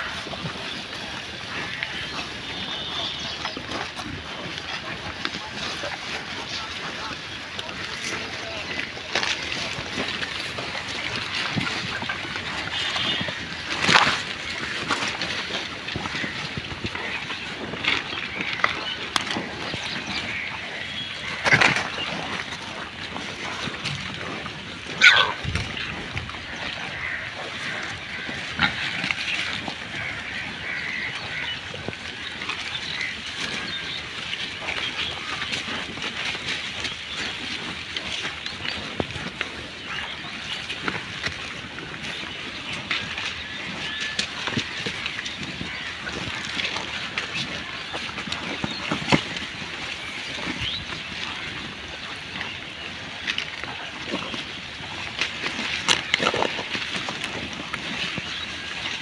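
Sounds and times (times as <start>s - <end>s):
pigs grunting and snuffling: 0.0s - 59.0s.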